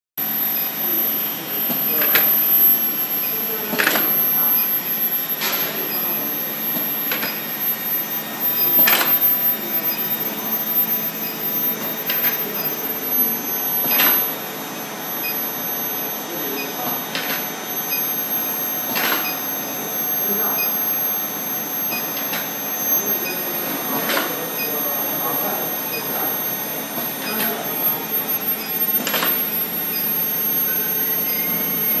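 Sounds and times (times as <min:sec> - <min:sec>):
high-pitched whine: 0:00.2 - 0:32.0
mechanical hum: 0:00.2 - 0:32.0.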